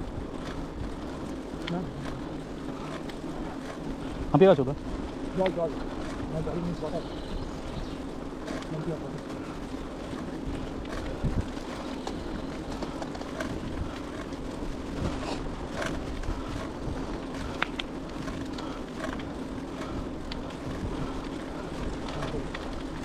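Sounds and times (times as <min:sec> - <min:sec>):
bicycle tyre noise: 0:00.0 - 0:23.0
bike clicking: 0:00.0 - 0:23.0.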